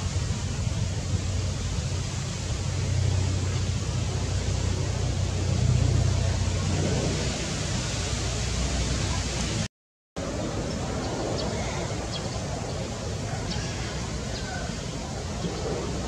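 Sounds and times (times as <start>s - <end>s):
rushing outdoor noise with low rumble: 0.0s - 16.0s.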